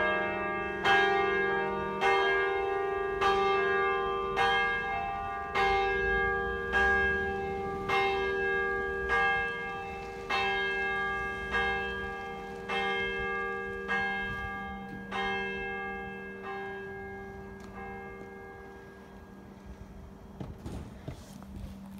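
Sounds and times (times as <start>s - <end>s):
church bells ringing: 0.0s - 21.9s.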